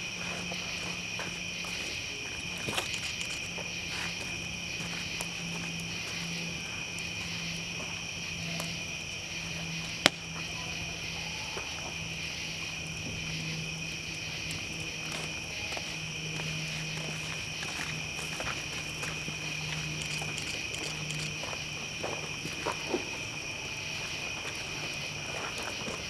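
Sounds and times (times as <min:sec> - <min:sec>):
campfire crackling: 0:00.0 - 0:26.0
night insects chorus: 0:00.0 - 0:26.0.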